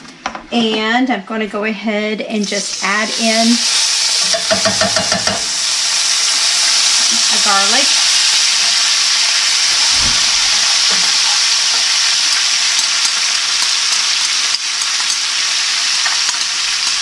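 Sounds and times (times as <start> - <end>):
garlic sizzling in oil: 2.4 - 17.0.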